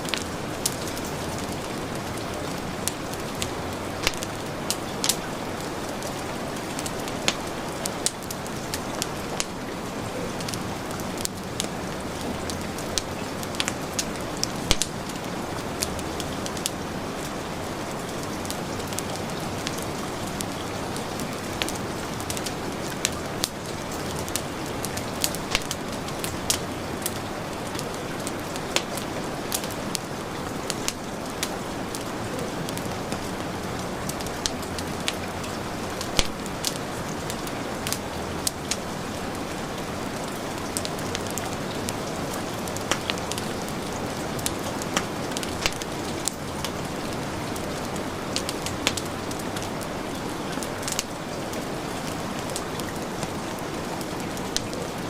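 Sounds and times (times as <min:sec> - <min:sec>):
heavy rain: 0:00.0 - 0:55.0
wood fire crackling and popping: 0:00.0 - 0:55.0.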